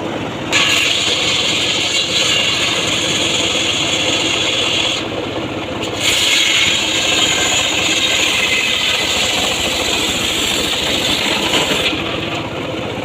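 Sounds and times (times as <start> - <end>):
sawmill blade cutting log: 0.0 - 12.7.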